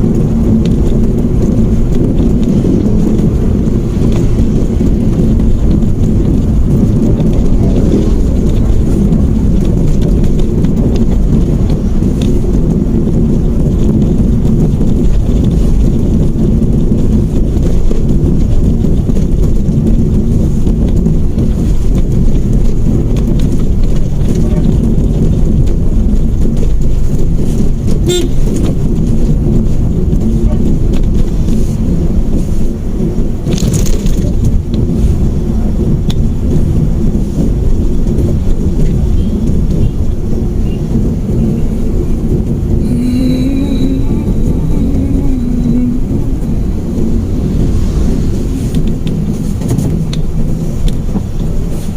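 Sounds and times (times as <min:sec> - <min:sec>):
car engine and tyre noise: 0:00.0 - 0:51.9.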